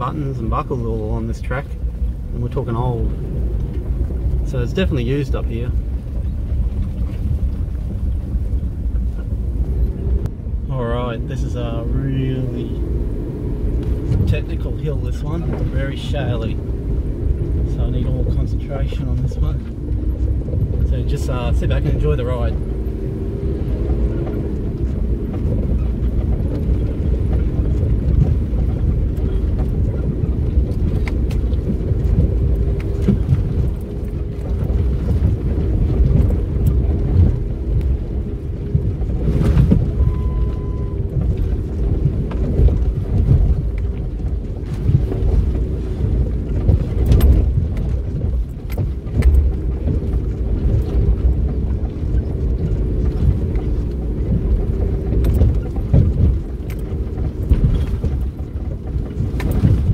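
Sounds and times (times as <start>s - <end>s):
vehicle engine running in low gear: 0.0s - 59.9s.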